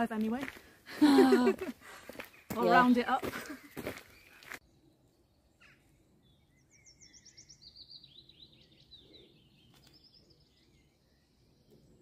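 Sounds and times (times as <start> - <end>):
faint songbird chirping: 1.6 - 12.0.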